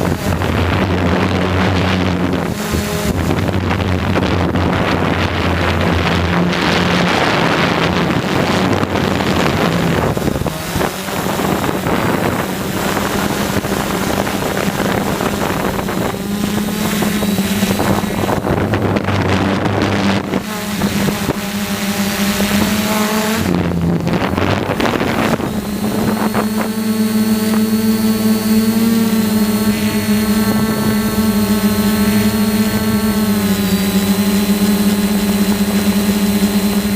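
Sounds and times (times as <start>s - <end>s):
drone motors humming: 0.0s - 36.9s
wind buffeting microphone: 0.0s - 36.9s.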